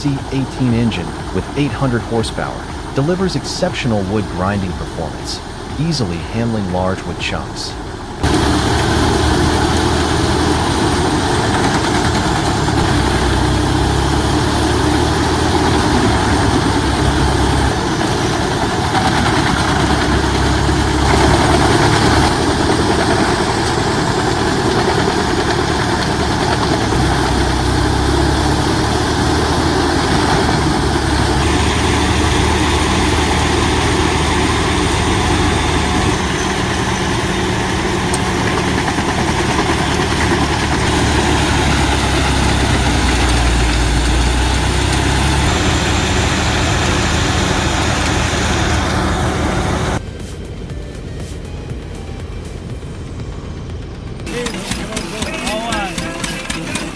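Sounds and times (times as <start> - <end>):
wood grinder diesel engine droning: 0.0 - 51.1, 51.8 - 56.9.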